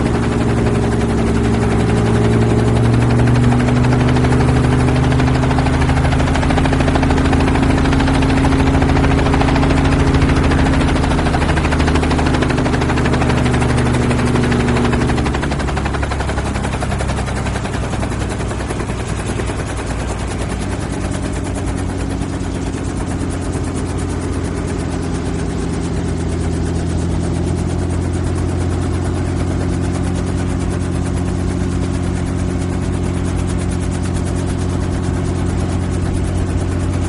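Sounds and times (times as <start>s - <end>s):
helicopter engine hum: 0.0s - 37.0s
helicopter rotor blade chop: 0.0s - 37.0s.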